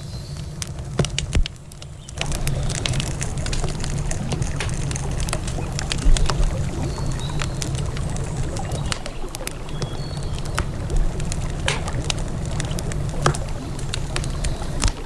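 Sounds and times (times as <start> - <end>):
campfire crackling and popping: 0.4 - 15.0
river water rushing: 2.2 - 15.0.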